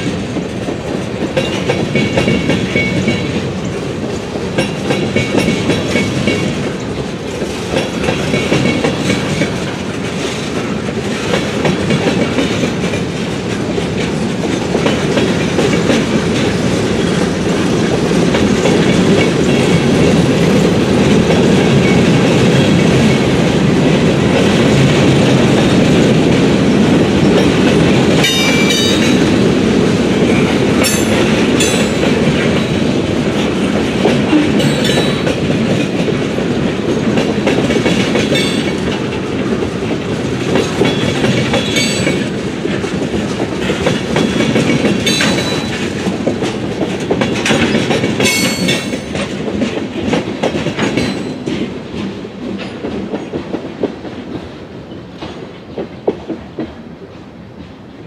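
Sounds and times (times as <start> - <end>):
train wheels rumbling and clacking: 0.0 - 58.0.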